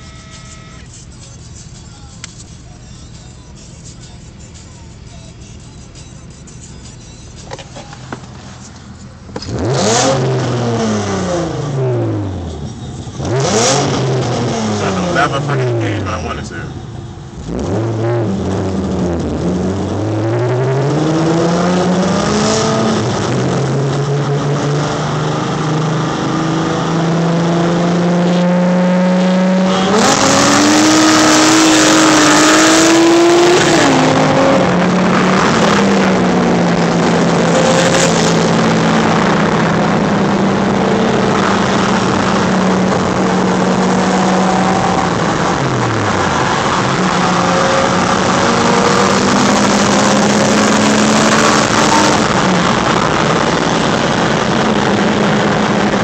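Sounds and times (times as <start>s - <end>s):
wind and road noise: 7.4s - 56.0s
car engine revving hard: 9.4s - 12.6s, 13.2s - 16.7s, 17.4s - 56.0s.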